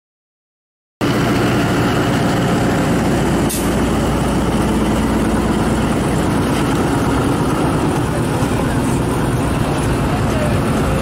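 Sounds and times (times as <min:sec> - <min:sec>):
diesel locomotive engine running: 0:01.0 - 0:11.0
train coaches rolling past: 0:01.0 - 0:11.0.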